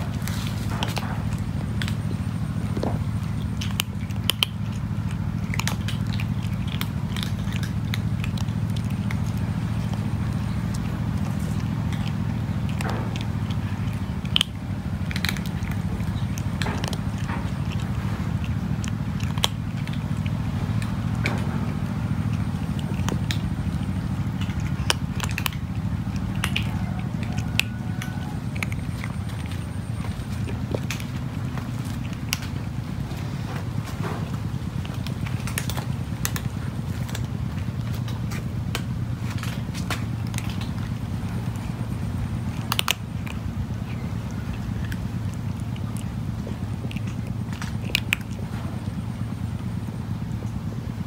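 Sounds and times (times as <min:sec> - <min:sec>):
cat crunching dry kibble: 0:00.0 - 0:51.0
steady low hum: 0:00.0 - 0:51.0
steady low rumble: 0:00.0 - 0:51.0.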